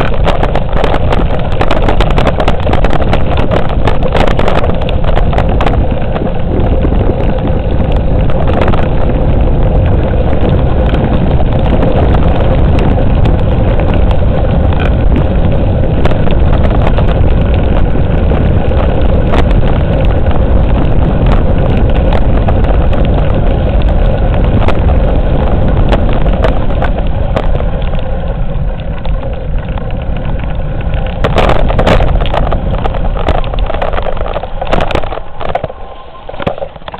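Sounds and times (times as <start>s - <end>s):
tyre rumble on rough road: 0.0s - 36.9s
wind buffeting microphone: 0.0s - 36.9s.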